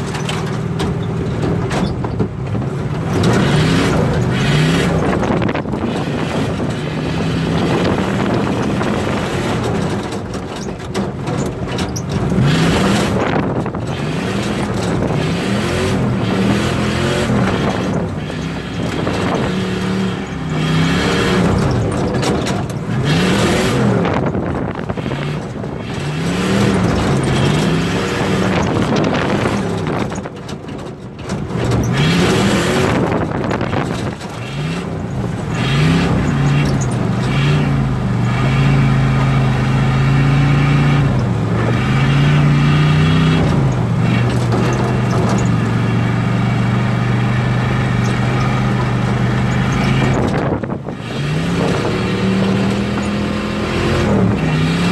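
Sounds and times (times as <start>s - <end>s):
engine revving from inside cab: 0.0s - 54.9s.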